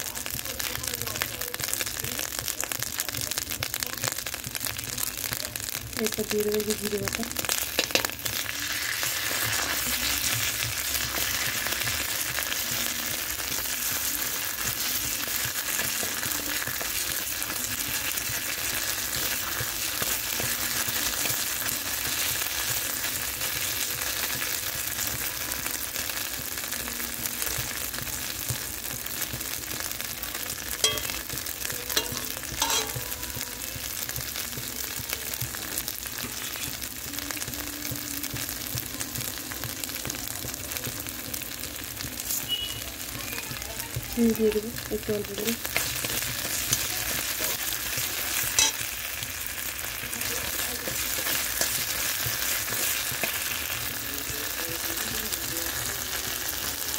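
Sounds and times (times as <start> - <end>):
spice paste sizzling in oil: 0.0 - 56.9.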